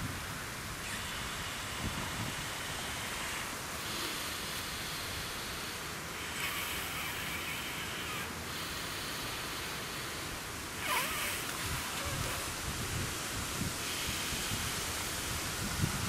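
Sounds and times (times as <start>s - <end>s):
man blowing into mat valve: 0.8s - 16.0s.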